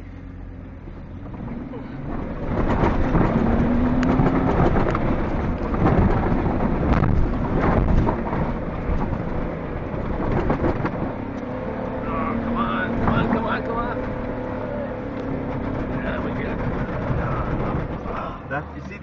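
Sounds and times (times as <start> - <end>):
engine and tyres rumbling in sand: 0.0 - 19.0
vehicle body knocks and rattles: 1.0 - 11.4, 12.9 - 14.4, 15.1 - 18.4.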